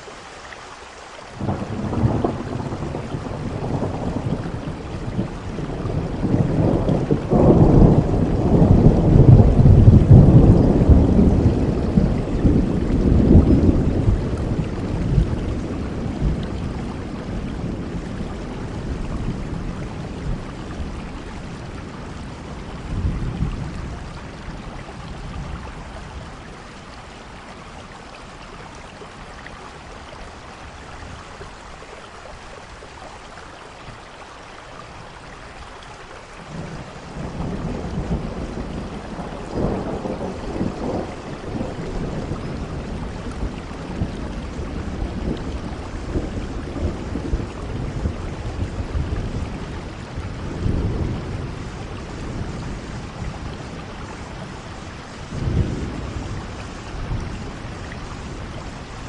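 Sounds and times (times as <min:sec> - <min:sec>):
steady rain: 0:00.0 - 0:59.0
rolling thunder: 0:01.4 - 0:27.0, 0:36.4 - 0:59.0.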